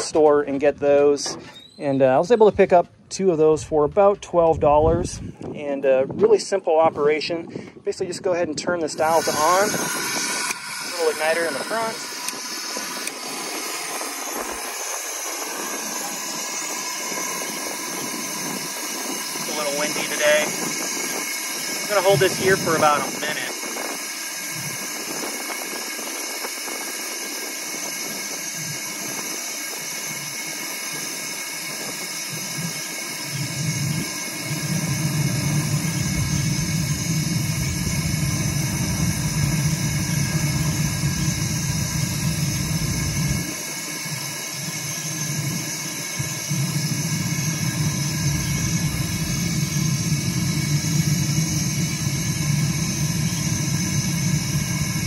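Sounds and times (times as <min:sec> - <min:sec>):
wind rumbling on microphone: 0:02.2 - 0:30.3, 0:31.7 - 0:43.6, 0:46.2 - 0:55.0
hissing torch flame: 0:08.8 - 0:55.0.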